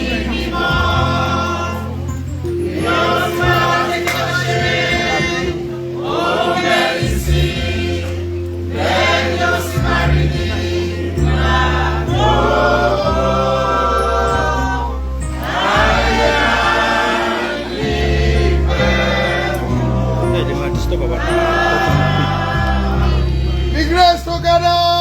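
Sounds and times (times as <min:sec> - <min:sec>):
choir singing a hymn: 0:00.0 - 0:24.4
low bass notes: 0:00.0 - 0:25.0.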